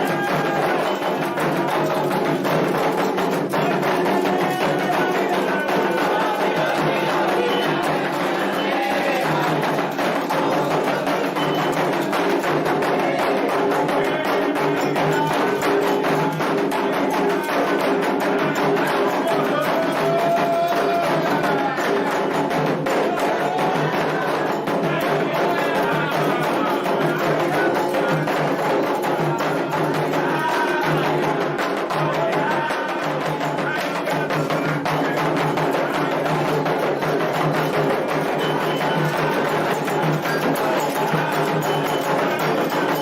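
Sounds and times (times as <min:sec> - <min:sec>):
hand drums playing rhythm: 0:00.0 - 0:43.0.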